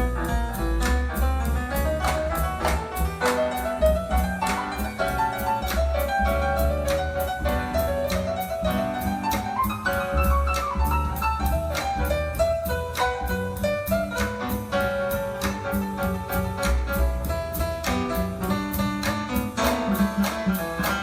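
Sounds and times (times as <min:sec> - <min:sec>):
instrumental music with bass: 0:00.0 - 0:21.0.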